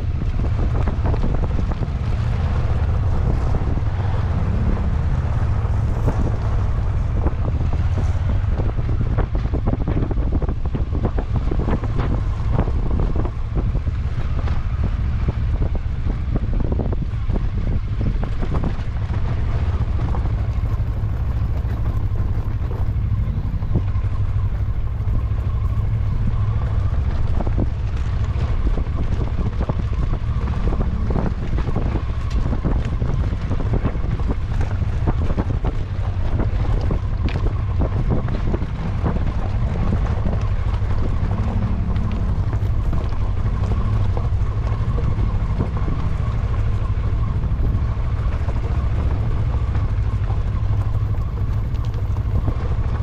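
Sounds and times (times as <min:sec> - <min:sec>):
vehicle rumbling off-road: 0:00.0 - 0:53.0
wind noise on microphone: 0:00.0 - 0:53.0.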